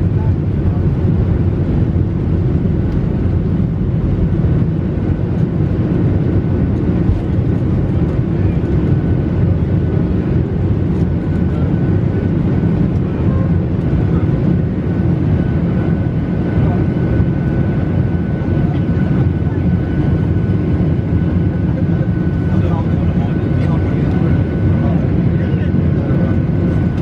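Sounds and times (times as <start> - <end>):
airliner cabin engine rumble: 0.0 - 27.0.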